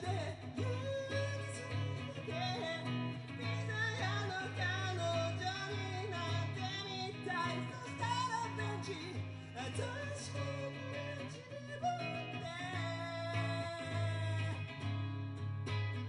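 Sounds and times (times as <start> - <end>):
person singing: 0.0 - 15.0
semi-acoustic guitar: 0.0 - 16.0.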